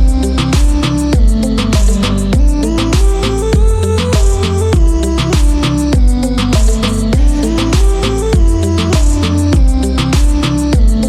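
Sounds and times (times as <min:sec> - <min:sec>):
synth music with steady beat: 0:00.0 - 0:11.0.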